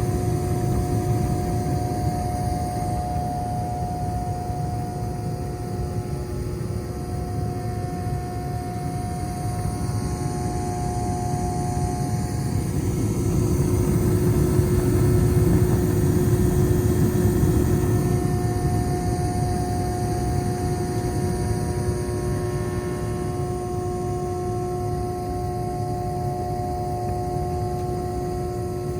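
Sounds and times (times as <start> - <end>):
furnace blower motor humming: 0.0 - 28.9.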